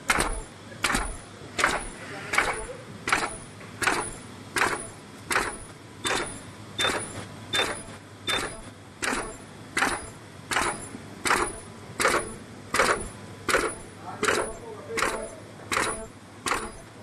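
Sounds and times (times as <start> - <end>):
machine clacking: 0.0 - 17.0
machine hum: 0.0 - 17.0.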